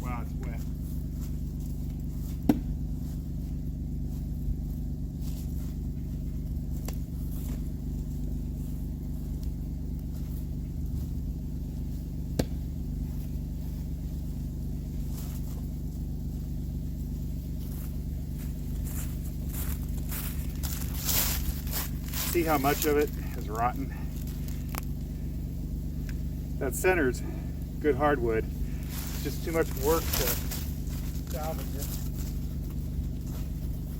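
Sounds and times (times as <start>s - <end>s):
vehicle engine humming: 0.0s - 33.9s.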